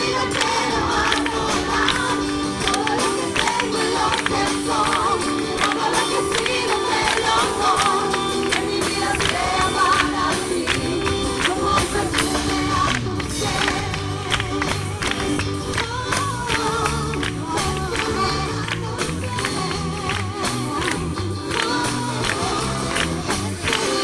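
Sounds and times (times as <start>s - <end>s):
bass: 0.0s - 24.0s
voices singing with vibrato: 0.0s - 24.0s.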